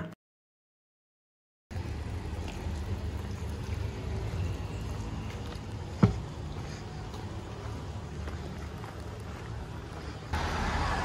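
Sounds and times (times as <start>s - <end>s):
low street rumble: 1.7s - 11.0s.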